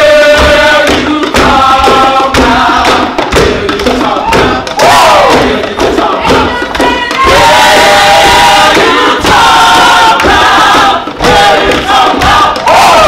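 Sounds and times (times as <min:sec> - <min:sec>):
group singing held chords: 0:00.0 - 0:13.0.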